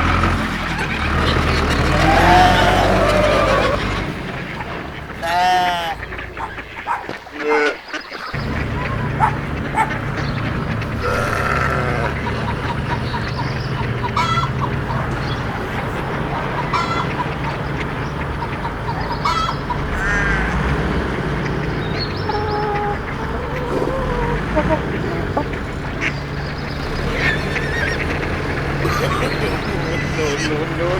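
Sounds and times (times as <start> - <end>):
poultry calling: 0.0 - 30.9.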